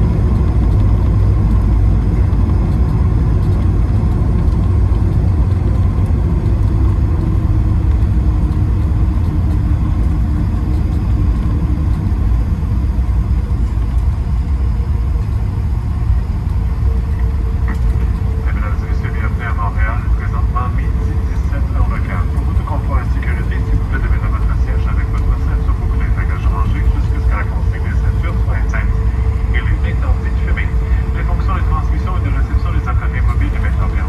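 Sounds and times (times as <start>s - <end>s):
aircraft cabin low rumble: 0.0s - 34.0s
faint engine tones: 0.0s - 34.0s.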